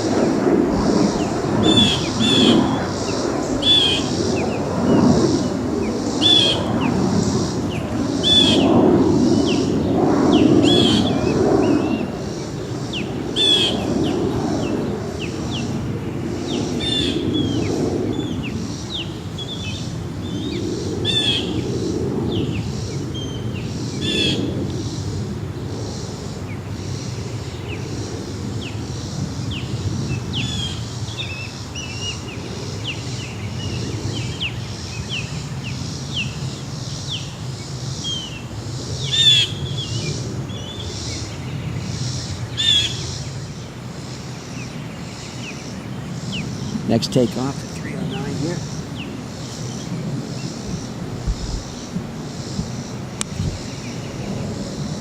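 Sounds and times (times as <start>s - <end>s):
airliner rumble: 0.0s - 55.0s.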